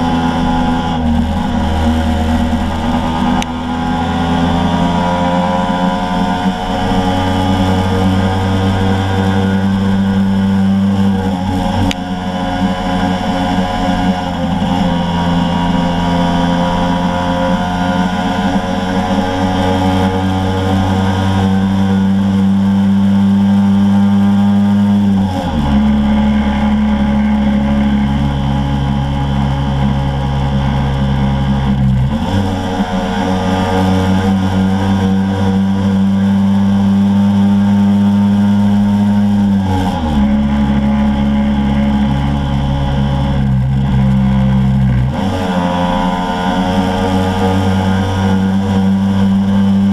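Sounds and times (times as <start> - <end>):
motor scooter engine running: 0.0 - 49.9.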